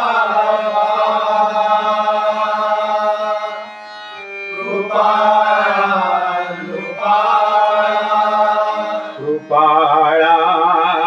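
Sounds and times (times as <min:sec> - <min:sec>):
devotional singing with accompaniment: 0:00.0 - 0:11.0.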